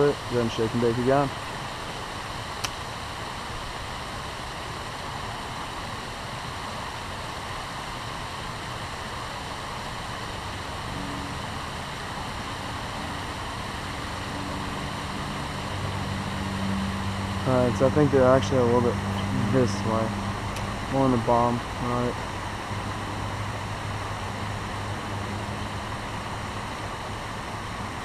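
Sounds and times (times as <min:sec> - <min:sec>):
low motor hum: 0:00.0 - 0:28.0
river water rushing: 0:00.0 - 0:28.0.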